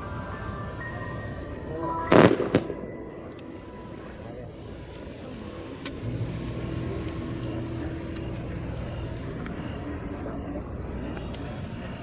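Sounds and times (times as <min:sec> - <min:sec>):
crickets chirping: 0:00.0 - 0:12.0
low steady hum: 0:00.0 - 0:12.0
sharp crack: 0:01.5 - 0:12.0.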